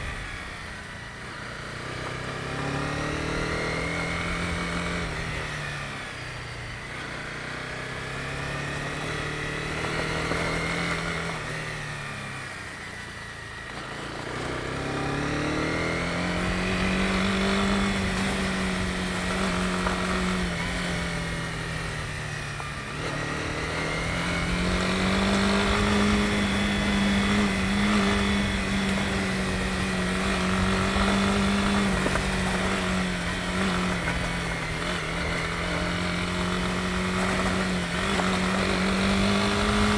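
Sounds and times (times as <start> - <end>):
motorcycle engine running: 0.0 - 39.9
road and wind rumble: 0.0 - 39.9.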